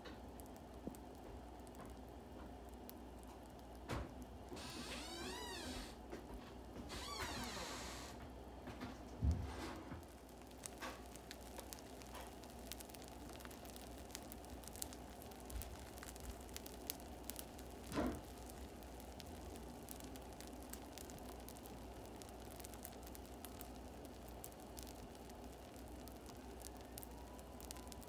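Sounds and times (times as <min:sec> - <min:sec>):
batter sizzling with tiny pops: 0:00.0 - 0:28.0.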